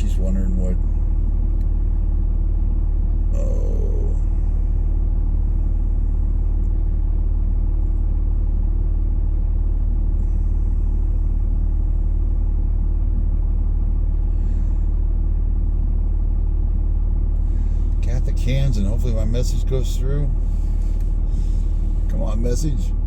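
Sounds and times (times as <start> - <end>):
faint constant hum: 0.0 - 23.0
vehicle engine idling: 0.0 - 23.0.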